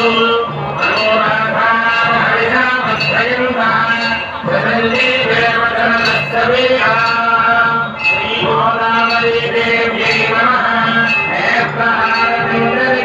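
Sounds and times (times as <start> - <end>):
man singing a chant: 0.0 - 13.0.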